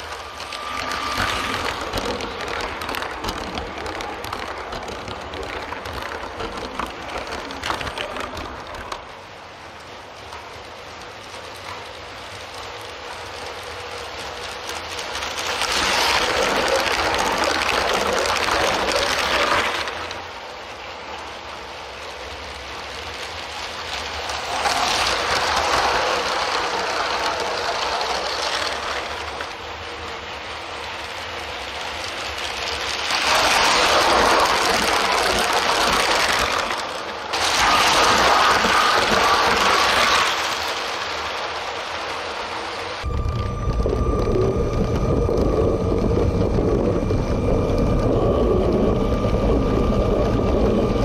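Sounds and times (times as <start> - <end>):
toy trains whirring on track: 0.0 - 51.0.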